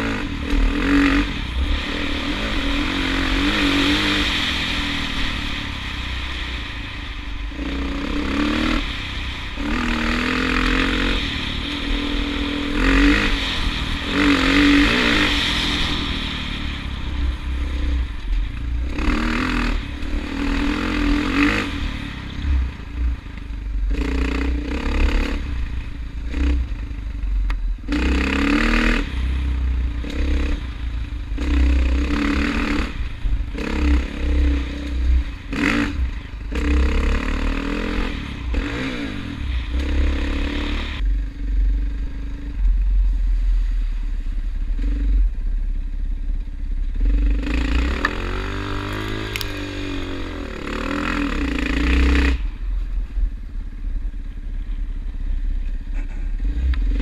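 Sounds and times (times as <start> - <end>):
vehicle engine revving: 0.0 - 45.6, 46.7 - 57.0.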